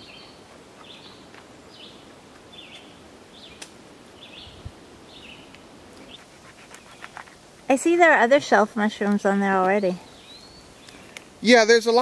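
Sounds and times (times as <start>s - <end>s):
bird chirping: 0.0s - 3.6s, 4.2s - 11.2s.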